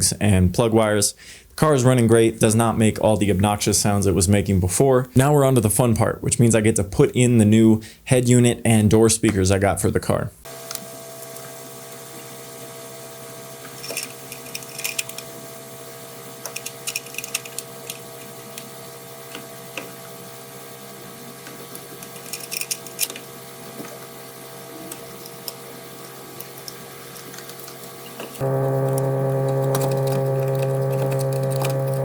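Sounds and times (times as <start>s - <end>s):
electrical hum: 0.0s - 32.0s.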